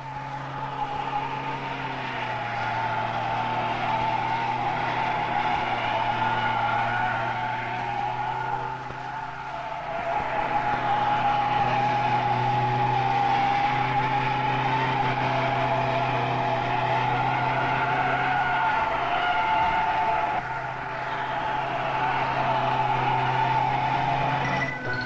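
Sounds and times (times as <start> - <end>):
car engine under load: 0.0 - 25.0
tyres squealing: 0.0 - 25.0.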